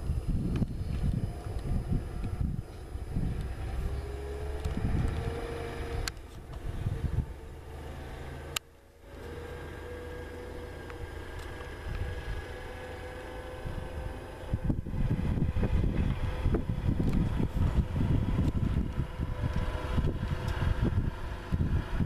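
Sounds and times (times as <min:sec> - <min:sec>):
wind buffeting microphone: 0:00.0 - 0:08.4, 0:09.4 - 0:22.0
distant sprayer engine running: 0:00.0 - 0:22.0.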